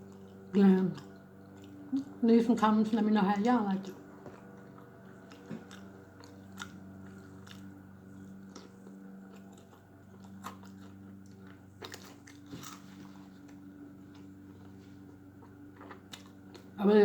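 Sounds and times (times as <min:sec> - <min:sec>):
person chewing crunchy food: 0:00.0 - 0:02.2, 0:03.7 - 0:16.8
steady low hum: 0:00.0 - 0:17.0.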